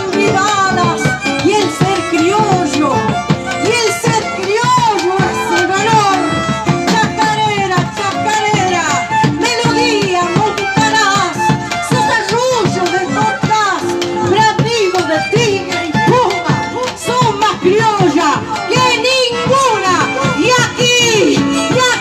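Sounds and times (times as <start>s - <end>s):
bass drums beaten with sticks: 0.0s - 22.0s.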